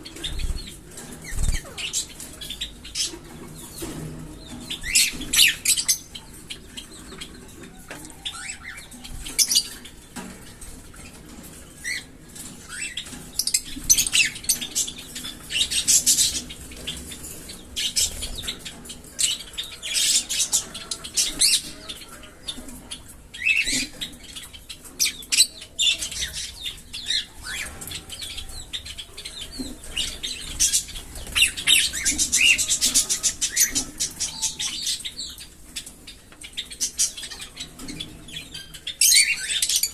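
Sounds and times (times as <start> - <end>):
parrots chattering and chirping: 0.0 - 39.9.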